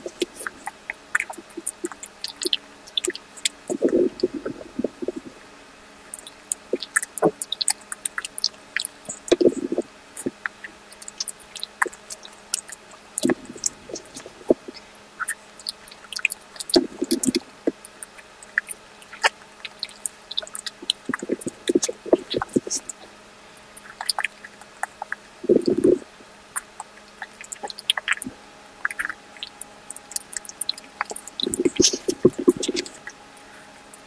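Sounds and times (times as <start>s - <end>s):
low mouth sounds: 0.0s - 5.4s, 6.1s - 23.1s, 23.8s - 33.2s
wet mouth clicks and smacks: 0.1s - 5.3s, 6.1s - 23.0s, 23.8s - 26.0s, 26.6s - 33.2s.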